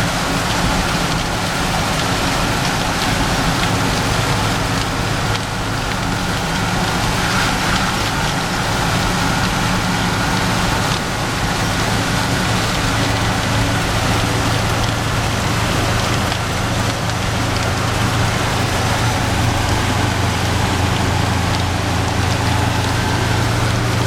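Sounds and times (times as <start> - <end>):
rain and wet road hiss: 0.0 - 24.0
van engine droning: 0.0 - 24.0.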